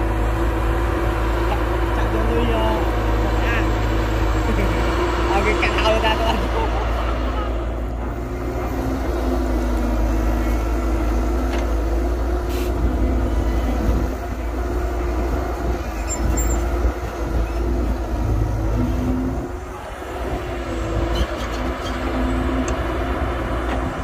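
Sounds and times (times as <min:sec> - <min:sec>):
heavy diesel engines running: 0:00.0 - 0:24.0.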